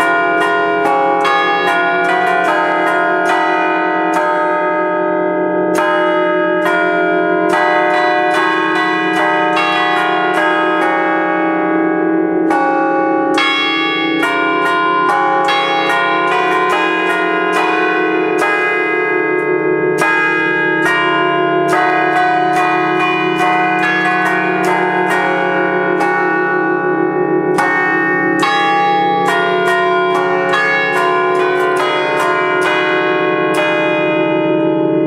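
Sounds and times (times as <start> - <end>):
church bells playing a tune: 0.0 - 35.0.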